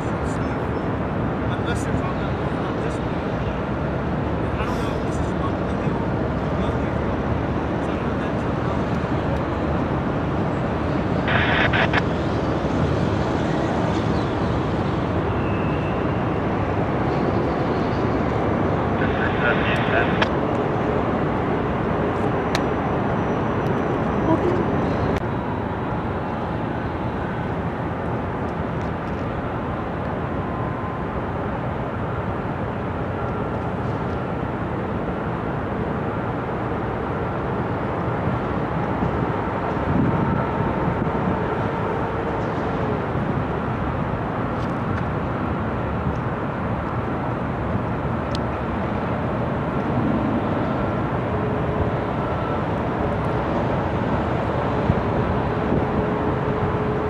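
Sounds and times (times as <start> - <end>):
diesel locomotive running: 0.0 - 57.0.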